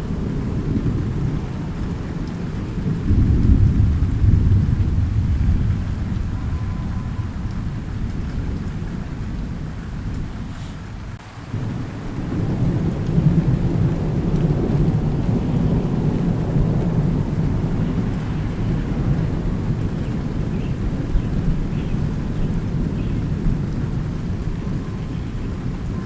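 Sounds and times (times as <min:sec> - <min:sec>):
deep rolling thunder: 0:00.0 - 0:26.0
steady rain: 0:00.0 - 0:26.0.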